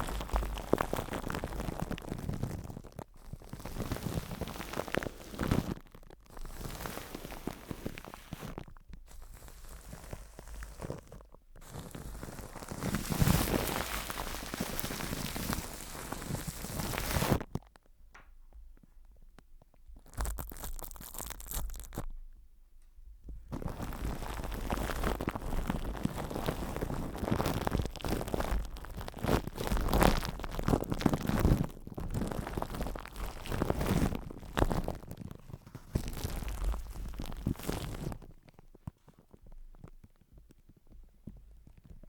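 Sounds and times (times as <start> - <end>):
crinkling and crackling handling: 0.0 - 42.0.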